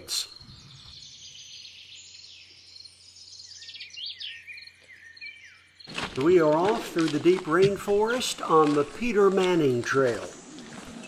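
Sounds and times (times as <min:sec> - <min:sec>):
birds chirping: 0:00.0 - 0:11.0
insects calling: 0:00.0 - 0:11.0.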